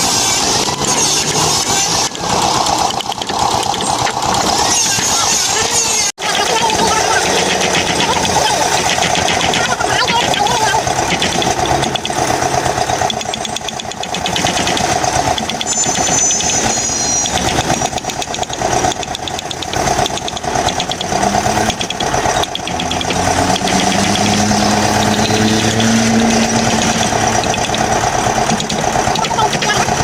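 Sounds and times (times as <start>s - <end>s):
power tool buzzing: 0.0s - 29.9s.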